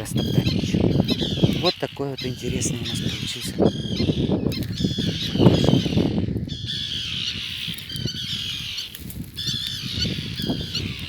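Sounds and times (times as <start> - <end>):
terns harsh alarm calls: 0.0 - 11.0.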